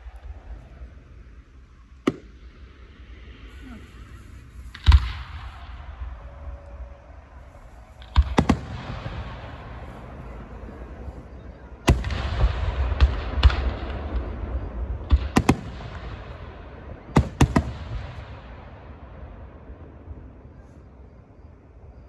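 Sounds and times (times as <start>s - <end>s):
fireworks hiss: 0.0s - 18.5s
fireworks bangs: 0.0s - 20.6s.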